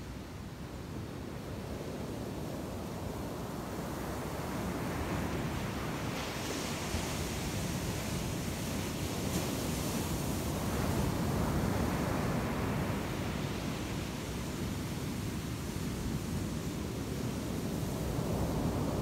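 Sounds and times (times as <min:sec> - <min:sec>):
ocean waves breaking on beach: 0:03.1 - 0:19.0.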